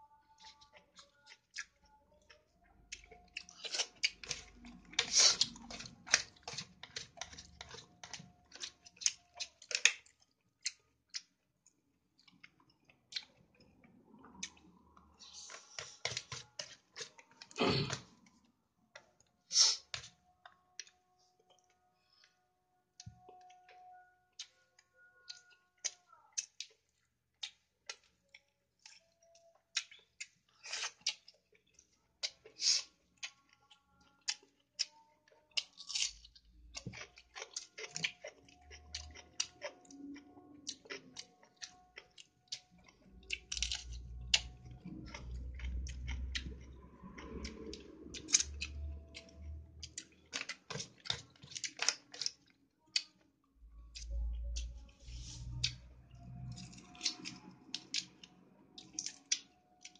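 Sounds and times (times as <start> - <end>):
person chewing with wet smacks: 0.2 - 59.9.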